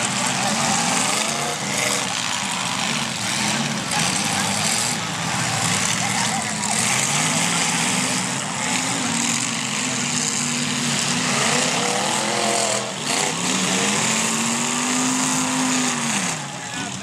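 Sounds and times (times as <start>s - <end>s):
car engines revving loudly: 0.0s - 17.0s.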